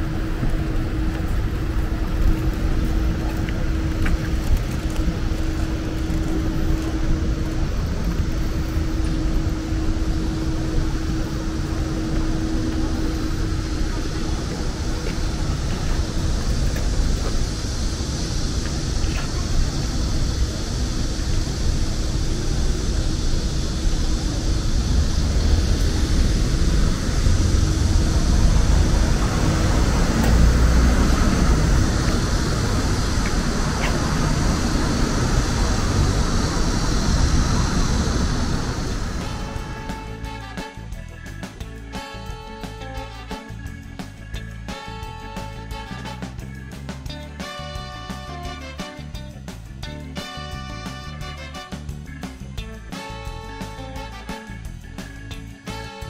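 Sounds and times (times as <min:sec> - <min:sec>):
low rumble: 0:00.0 - 0:52.9
road traffic passing: 0:00.0 - 0:56.0
steady low hum: 0:00.0 - 0:56.0.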